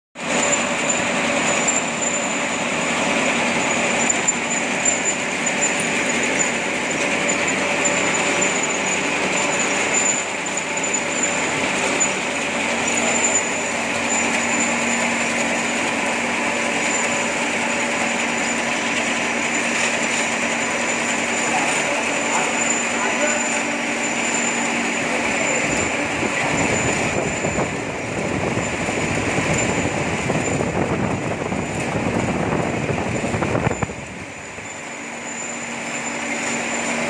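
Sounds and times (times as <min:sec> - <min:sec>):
thin high tone: 0:00.2 - 0:27.9, 0:33.5 - 0:37.0
conveyor mechanical clatter: 0:00.2 - 0:37.0.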